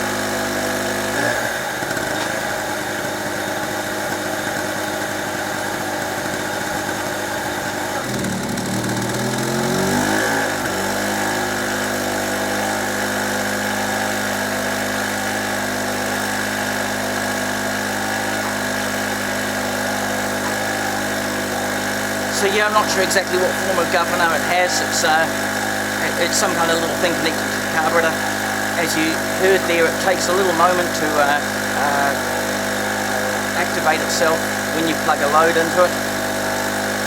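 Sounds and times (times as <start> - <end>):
small generator running: 0.0 - 37.0.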